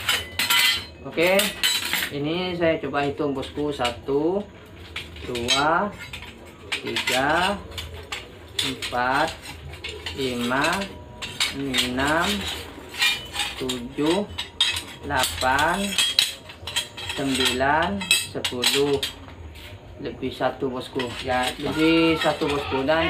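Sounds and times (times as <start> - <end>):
steel blades clinking and scraping: 0.0 - 23.0.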